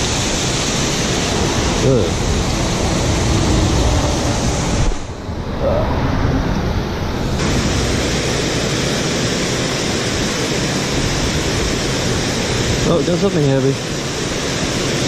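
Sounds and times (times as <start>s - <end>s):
water rushing over a spillway: 0.0s - 5.8s, 6.5s - 15.0s.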